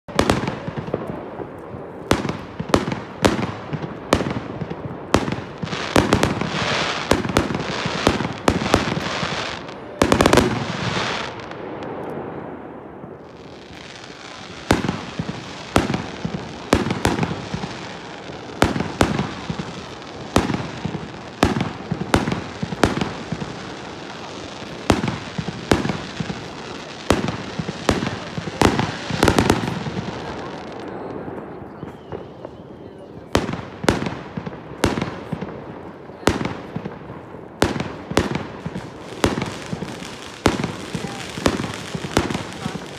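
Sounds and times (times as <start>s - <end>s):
fireworks bangs: 0.1s - 42.9s
fireworks crackle and hiss: 0.1s - 42.9s.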